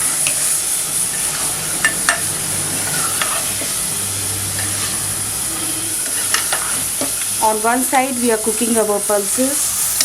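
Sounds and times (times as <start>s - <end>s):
pot boiling with steady hiss: 0.0s - 10.0s.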